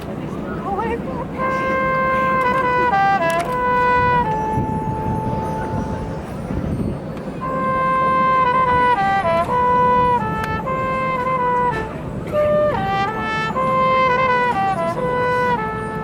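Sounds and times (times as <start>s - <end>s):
marching band brass playing: 1.4s - 5.8s, 7.5s - 16.0s.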